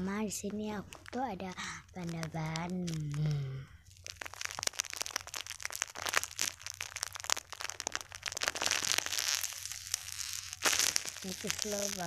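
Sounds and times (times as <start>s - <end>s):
foam squishy toy crinkling: 0.0s - 12.0s.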